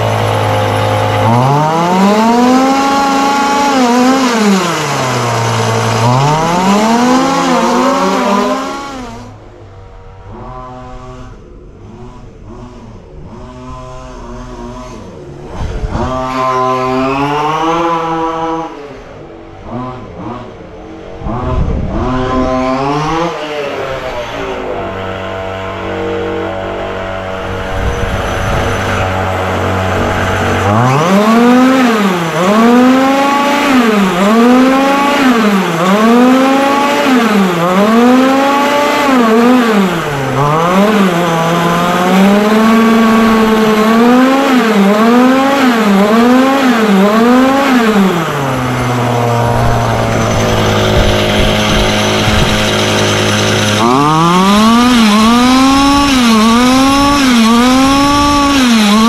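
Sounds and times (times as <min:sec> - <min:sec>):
small two-stroke engine revving: 0:00.0 - 0:59.0.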